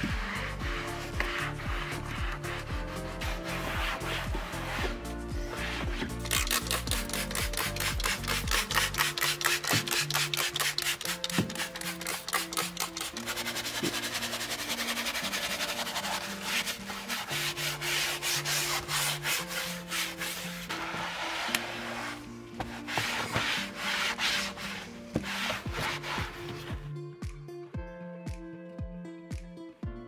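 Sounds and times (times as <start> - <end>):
brush scrubbing wet plastic: 0.0 - 26.7
soft background music: 0.0 - 30.0.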